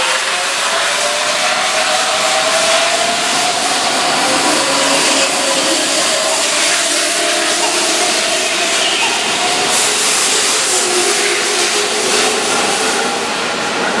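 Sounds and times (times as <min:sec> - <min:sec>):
electric train rolling past: 0:00.0 - 0:14.0
wheels on rails: 0:00.0 - 0:14.0.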